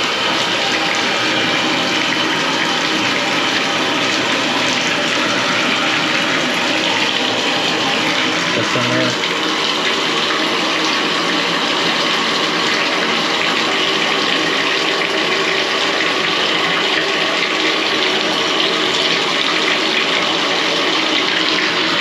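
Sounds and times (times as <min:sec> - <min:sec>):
water running from bathtub tap: 0:00.0 - 0:22.0.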